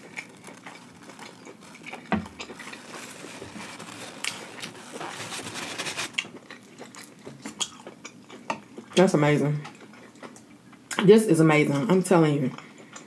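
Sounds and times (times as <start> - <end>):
chewing crab meat: 0.0 - 5.1, 6.0 - 11.0, 11.7 - 13.0.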